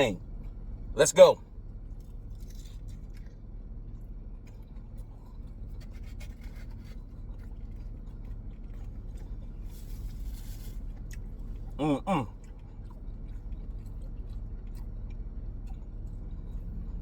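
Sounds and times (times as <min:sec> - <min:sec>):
low steady hum: 0:00.0 - 0:17.0
person chewing food: 0:01.9 - 0:17.0.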